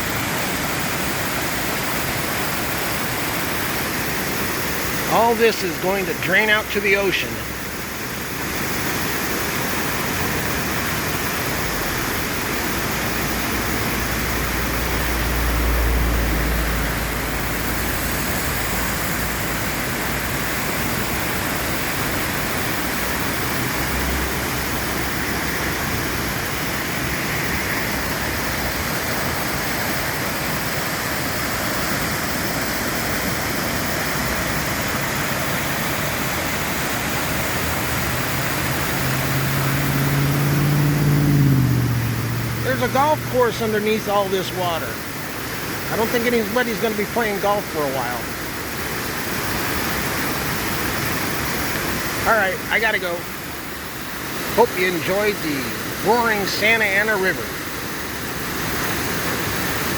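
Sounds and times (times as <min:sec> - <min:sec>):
floodwater roaring: 0:00.0 - 0:59.9.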